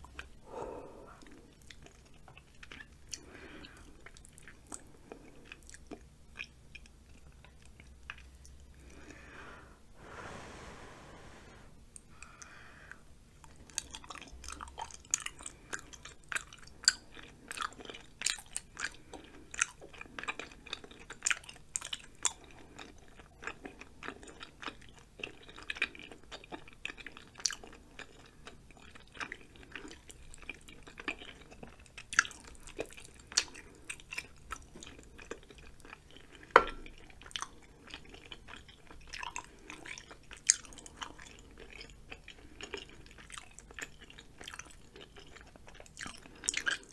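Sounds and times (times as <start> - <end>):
chewing soft food: 0.0 - 9.3, 13.4 - 46.9.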